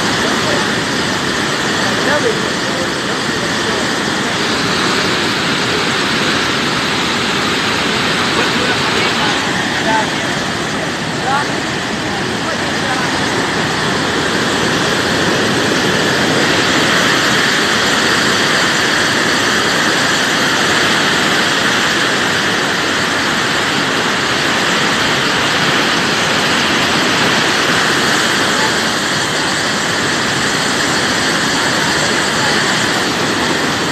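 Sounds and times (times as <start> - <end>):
roar of turbulent river water: 0.0 - 33.9.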